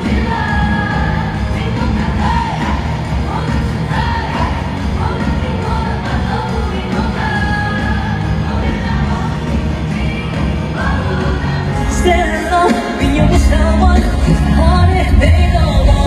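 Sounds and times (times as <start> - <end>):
pop song over sound system: 0.0 - 16.0.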